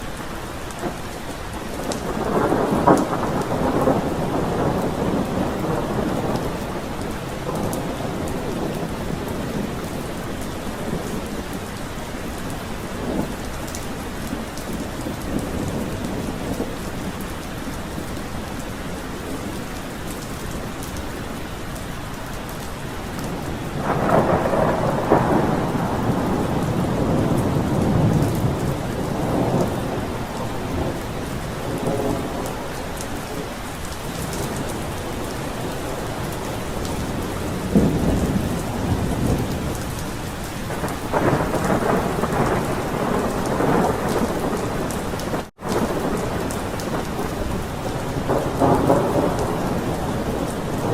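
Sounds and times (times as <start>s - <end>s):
steady rain falling: 0.0s - 50.9s
thunder rumbling: 0.1s - 18.4s, 23.1s - 50.9s.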